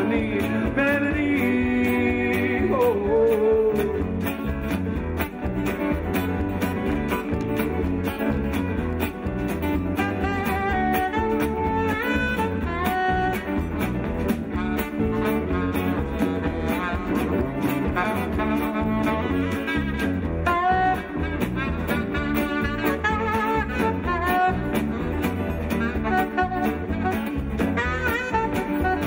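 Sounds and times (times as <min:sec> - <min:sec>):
live band playing: 0:00.0 - 0:29.0
saxophone: 0:00.0 - 0:29.0
fiddle: 0:04.4 - 0:29.0.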